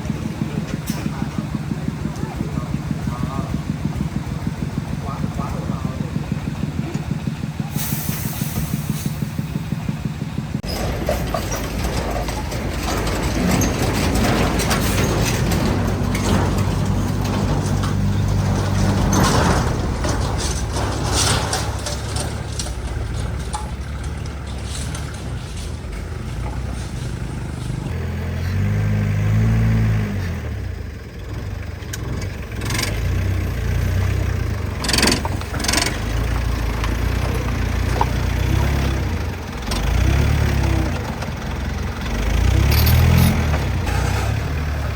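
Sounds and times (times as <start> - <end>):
truck engine driving: 0.0 - 44.9.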